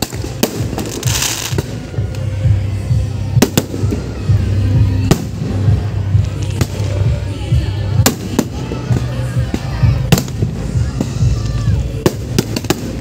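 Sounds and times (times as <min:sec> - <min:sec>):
fireworks bangs: 0:00.0 - 0:02.1, 0:03.2 - 0:07.2, 0:08.0 - 0:13.0
fireworks crackling hiss: 0:00.0 - 0:13.0
music with deep bass: 0:00.0 - 0:13.0.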